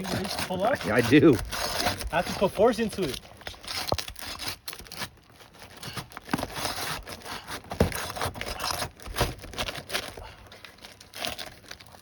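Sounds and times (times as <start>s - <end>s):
roof shingles scraping and tearing: 0.0s - 12.0s.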